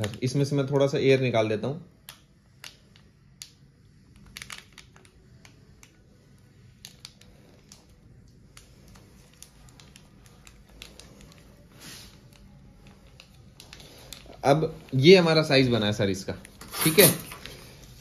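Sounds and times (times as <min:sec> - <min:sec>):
plastic sachet crinkling: 0:02.0 - 0:18.0.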